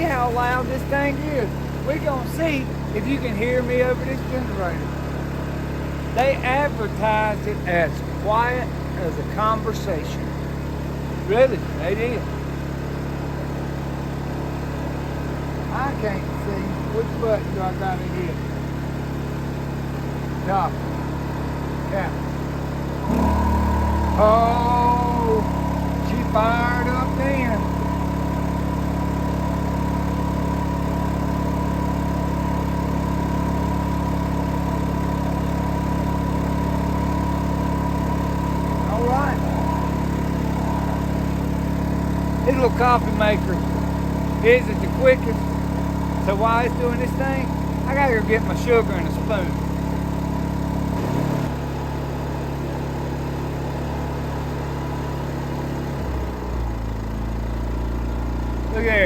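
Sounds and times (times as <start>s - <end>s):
generator engine hum: 0.0s - 59.0s.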